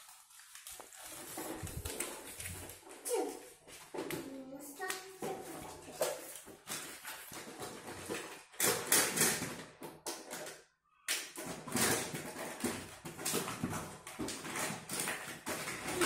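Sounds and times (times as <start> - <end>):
plastic toys clattering: 0.0 - 16.0.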